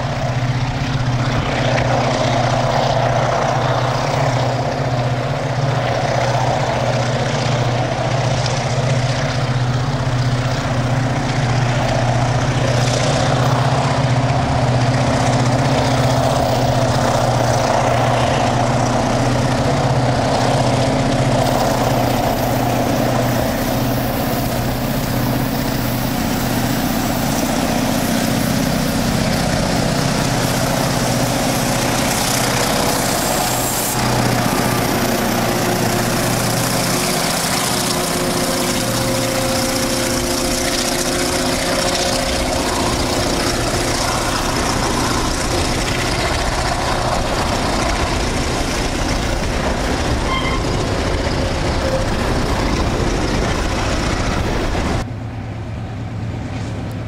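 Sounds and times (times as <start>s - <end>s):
locomotive engine drone: 0.0s - 57.0s.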